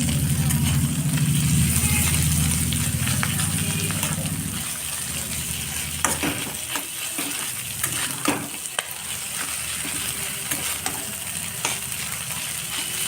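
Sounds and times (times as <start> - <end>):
food sizzling in hot oil: 0.0 - 13.0
spatula scraping a pan: 0.0 - 13.0.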